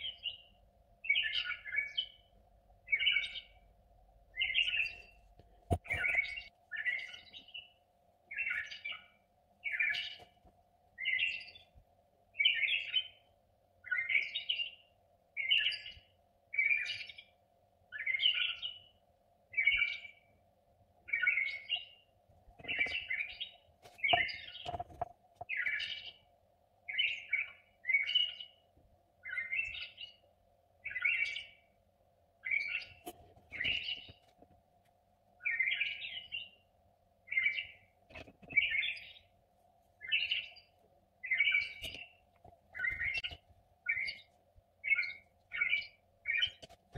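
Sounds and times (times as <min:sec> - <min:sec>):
small bird chirping: 0:00.0 - 0:03.7, 0:04.3 - 0:10.4, 0:11.0 - 0:11.8, 0:12.4 - 0:20.3, 0:21.1 - 0:26.2, 0:26.9 - 0:28.6, 0:29.2 - 0:30.2, 0:30.8 - 0:31.7, 0:32.4 - 0:34.4, 0:35.4 - 0:36.7, 0:37.3 - 0:39.3, 0:40.0 - 0:46.9.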